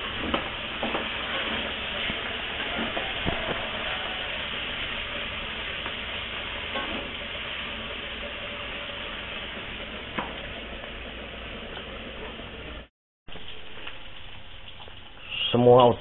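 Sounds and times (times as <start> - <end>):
food sizzling in oil: 0.0 - 15.5.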